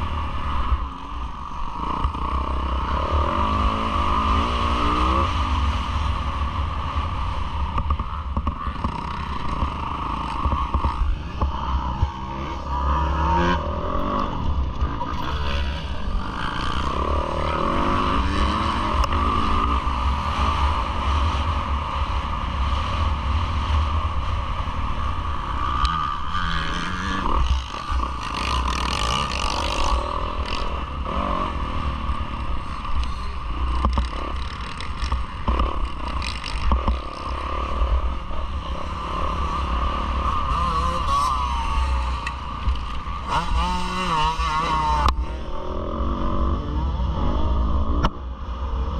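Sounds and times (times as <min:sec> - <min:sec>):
motocross engine revving: 0:01.7 - 0:06.2, 0:07.2 - 0:22.1, 0:25.4 - 0:47.6.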